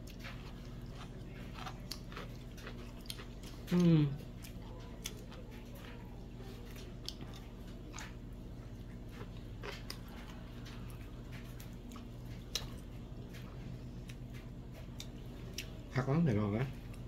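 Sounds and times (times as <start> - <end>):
person chewing: 0.0 - 16.0
steady low hum: 0.0 - 17.0.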